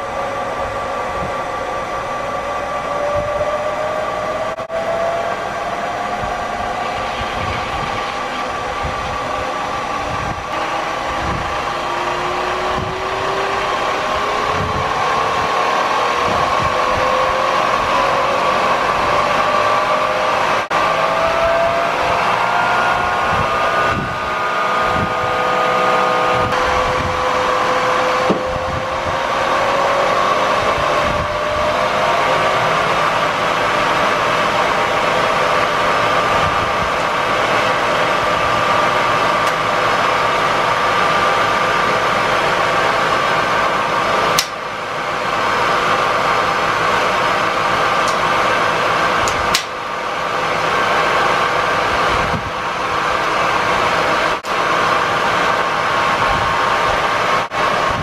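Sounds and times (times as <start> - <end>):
milling machine whir and whine: 0.0 - 58.0.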